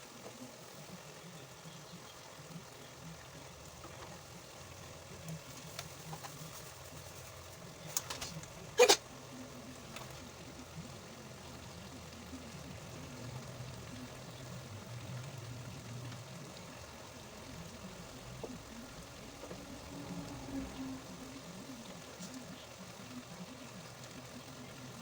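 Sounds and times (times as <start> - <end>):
faint low hum: 0.0 - 25.0
water boiling in a pot: 0.0 - 25.0.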